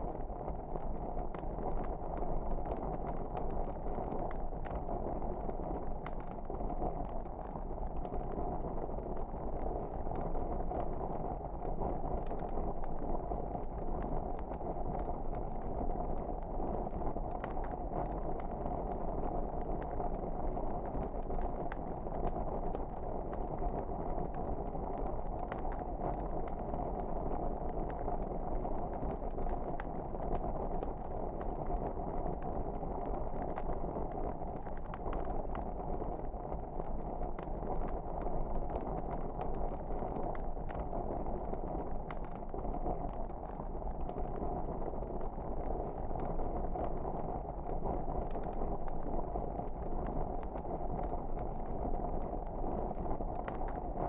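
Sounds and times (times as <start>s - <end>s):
fire crackles and pops: 0.0s - 54.0s.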